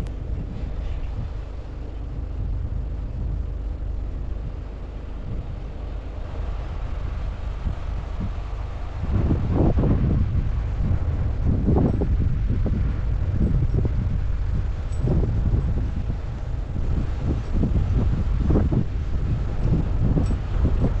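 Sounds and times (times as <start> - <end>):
diesel engine rumbling: 0.0 - 21.0
wind buffeting the microphone: 0.0 - 21.0.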